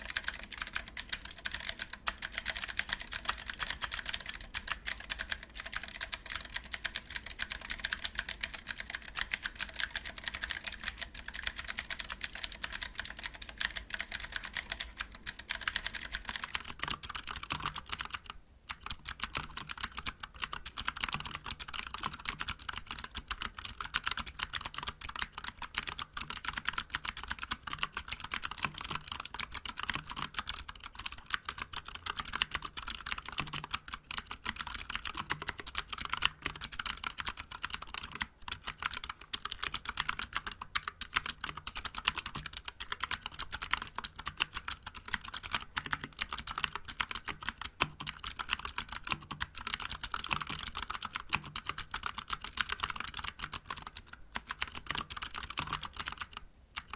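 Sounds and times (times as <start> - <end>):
fast clicky keyboard typing: 0.0 - 56.9.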